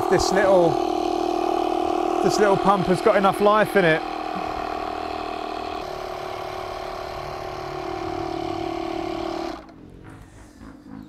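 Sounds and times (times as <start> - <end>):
tyre inflator compressor running: 0.0 - 10.0.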